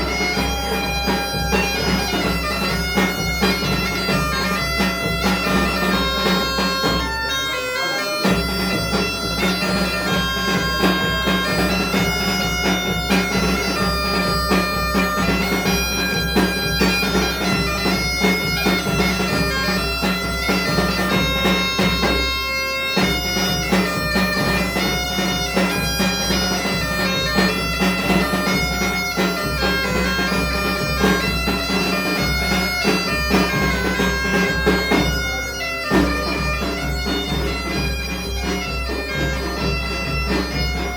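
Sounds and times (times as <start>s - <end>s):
bagpipe playing a tune: 0.0s - 40.9s
drum keeping time: 0.0s - 40.9s.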